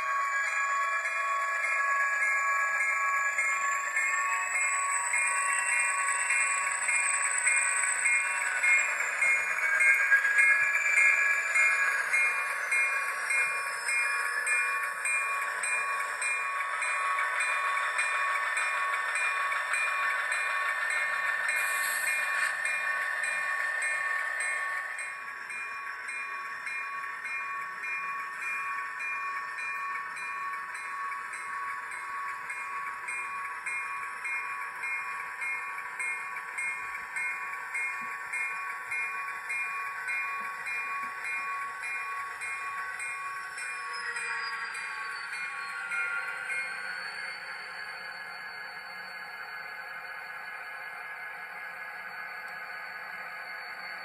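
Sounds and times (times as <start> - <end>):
steady high tone: 0.0 - 50.0
model locomotive running: 0.0 - 54.0.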